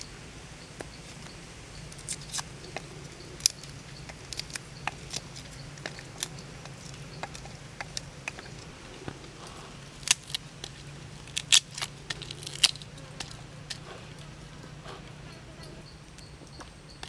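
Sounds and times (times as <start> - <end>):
dry garlic skins crackling: 0.0 - 17.0.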